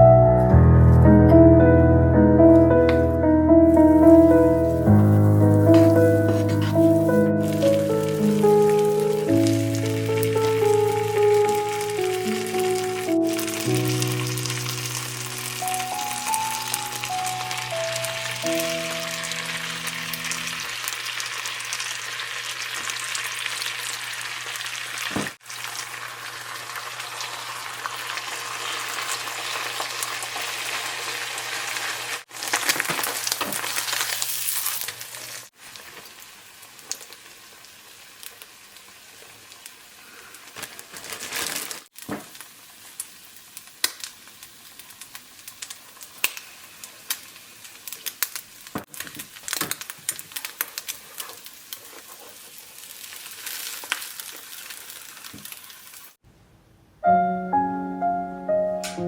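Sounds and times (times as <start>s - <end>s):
food sizzling in a pan: 3.6s - 56.2s.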